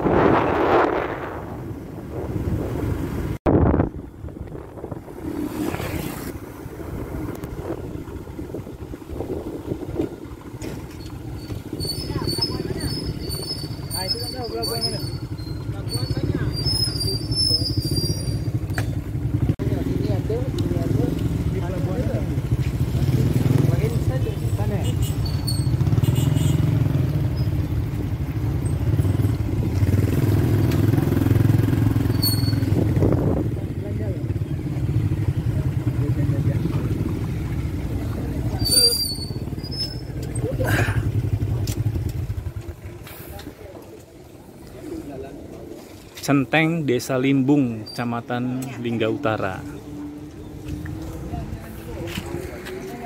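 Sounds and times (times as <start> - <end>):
motorcycle engine running: 0.0 - 45.6
road and wind noise: 0.0 - 53.0.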